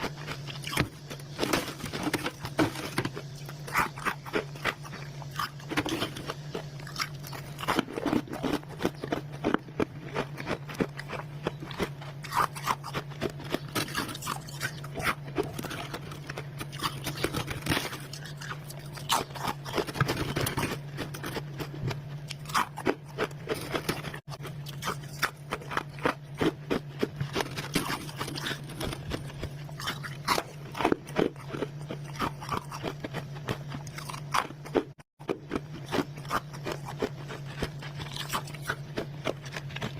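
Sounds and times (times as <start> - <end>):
person chewing crunchy frost: 0.0 - 39.9
steady low hum: 0.0 - 39.9.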